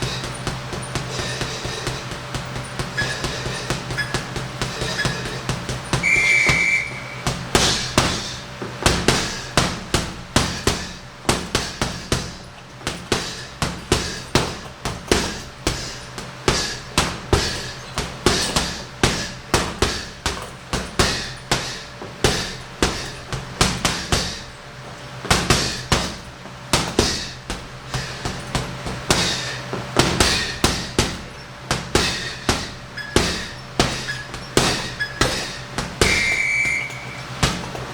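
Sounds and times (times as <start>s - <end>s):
gloves punching heavy bag: 0.0s - 37.9s.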